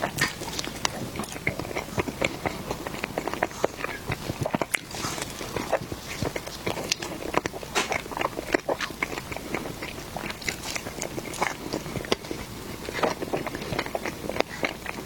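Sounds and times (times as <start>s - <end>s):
biting and chewing: 0.0s - 15.0s.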